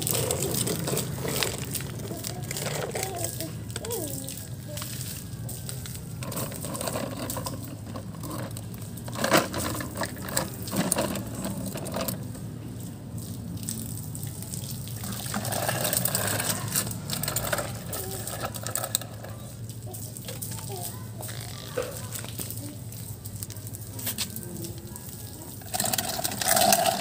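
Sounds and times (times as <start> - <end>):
water splashing and running: 0.0 - 27.0.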